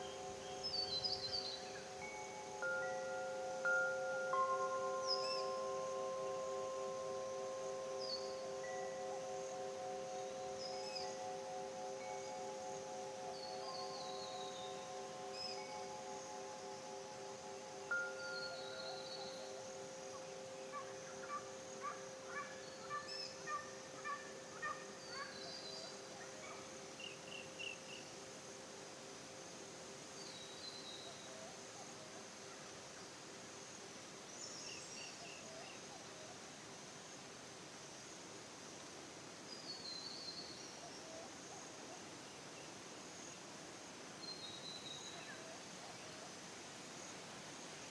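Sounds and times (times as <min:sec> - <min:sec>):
faint steady drone: 0:00.0 - 0:47.9
steady background hiss: 0:00.0 - 0:47.9.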